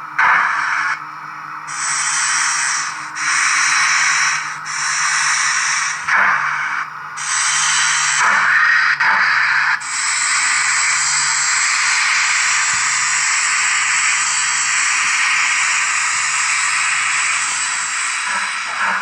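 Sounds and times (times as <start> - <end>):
steam hiss: 0.0 - 1.0, 1.7 - 19.0.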